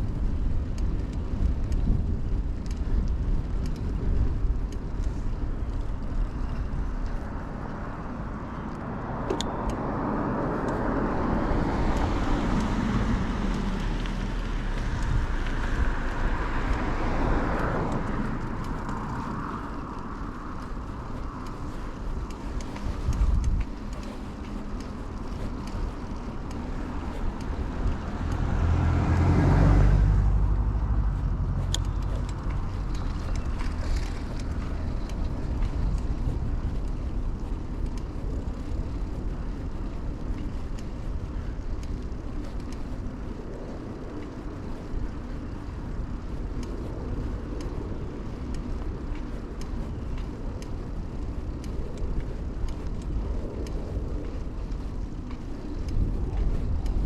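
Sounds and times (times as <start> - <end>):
bicycle tyre noise: 0.0 - 57.0
wind noise: 0.0 - 57.0
motor vehicle passing: 4.8 - 57.0.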